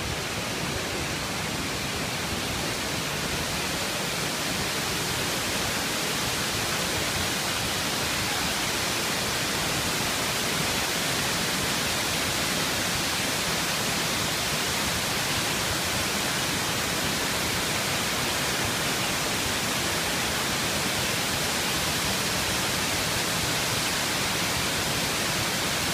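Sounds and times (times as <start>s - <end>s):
waterfall roaring: 0.0s - 25.9s.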